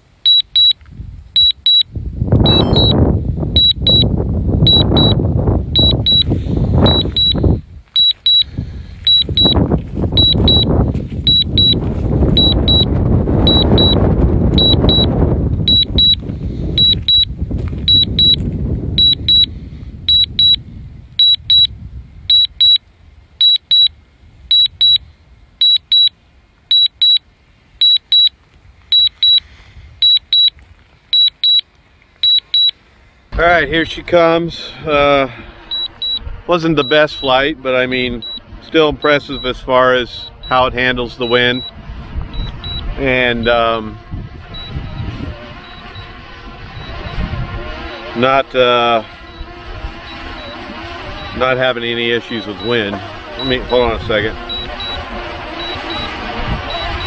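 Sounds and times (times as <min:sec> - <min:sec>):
remote controller warning beeps: 0:00.2 - 0:00.8, 0:01.4 - 0:03.0, 0:03.6 - 0:16.2, 0:16.8 - 0:20.6, 0:21.2 - 0:21.7, 0:22.3 - 0:22.8, 0:23.4 - 0:25.0, 0:25.6 - 0:27.2, 0:27.8 - 0:28.3, 0:28.9 - 0:32.8, 0:34.7 - 0:57.0
wind buffeting microphone: 0:00.8 - 0:23.4, 0:33.3 - 0:57.0.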